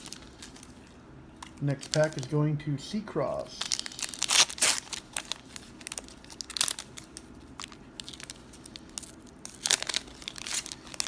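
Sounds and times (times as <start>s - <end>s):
foil wrapper crinkling and tearing: 0.0s - 2.4s, 3.5s - 11.0s.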